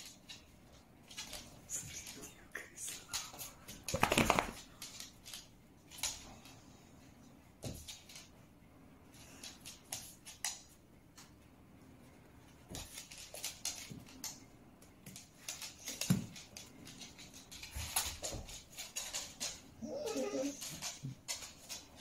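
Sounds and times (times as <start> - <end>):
paws scrabbling on wooden floor: 0.0 - 22.0.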